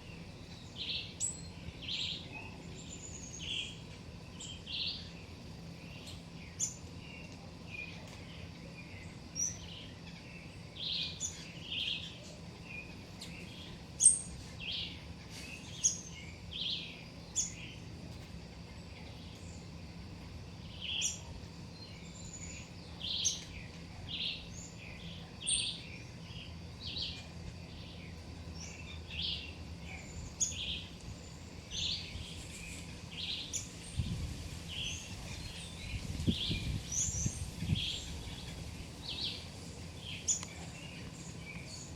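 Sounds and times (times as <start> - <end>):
low background hum: 0.0 - 41.9
songbirds chirping: 0.0 - 41.9.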